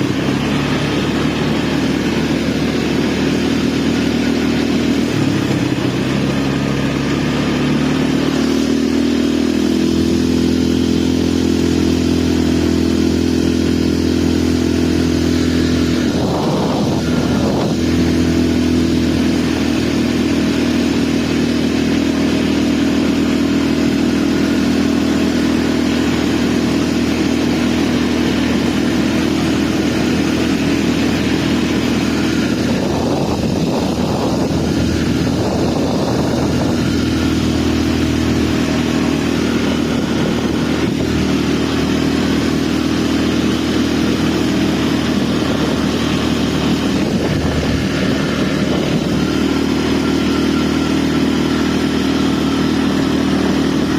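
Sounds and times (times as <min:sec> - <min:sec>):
quad bike engine running: 0:00.0 - 0:53.9.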